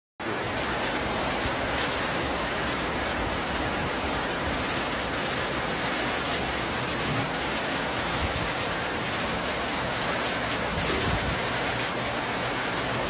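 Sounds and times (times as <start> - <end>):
heavy rain downpour: 0.2 - 13.0.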